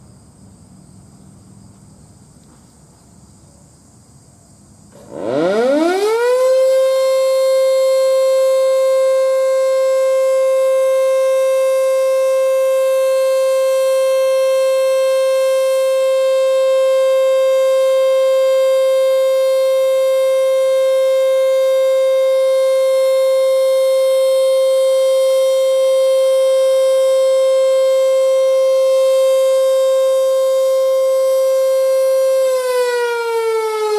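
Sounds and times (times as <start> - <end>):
warning siren winding up: 5.0 - 33.9.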